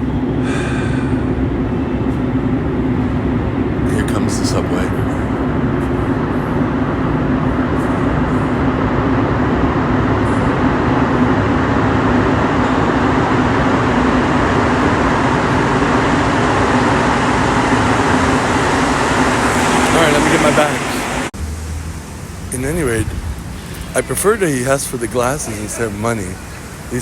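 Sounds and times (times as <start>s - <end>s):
constant low drone: 0.0s - 27.0s
subway train rumbling: 0.0s - 27.0s.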